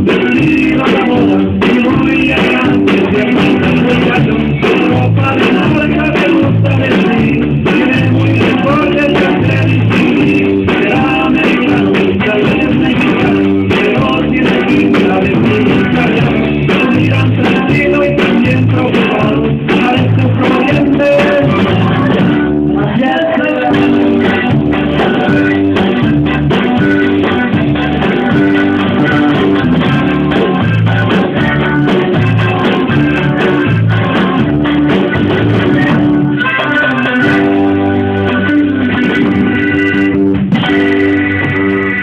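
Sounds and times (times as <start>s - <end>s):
bass guitar: 0.0s - 42.0s
drum kit: 0.0s - 42.0s
guitars: 0.0s - 42.0s.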